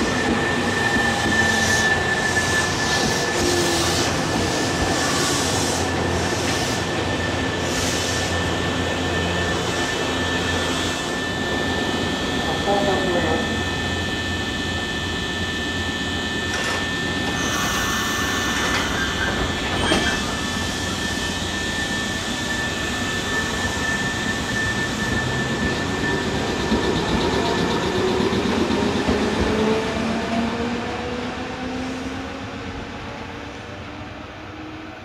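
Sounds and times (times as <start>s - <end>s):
electric train running: 0.0s - 30.2s
train motor whine rising: 0.0s - 30.3s.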